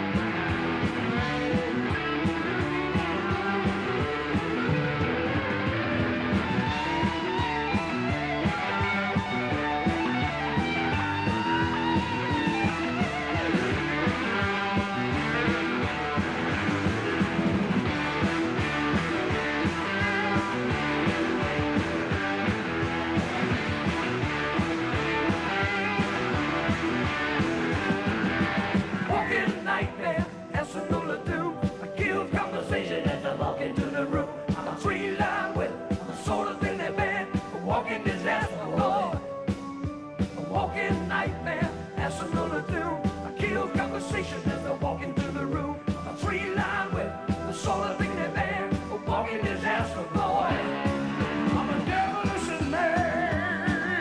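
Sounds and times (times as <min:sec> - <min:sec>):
electric guitar: 0:00.0 - 0:54.0
rock band playing live: 0:00.0 - 0:54.0.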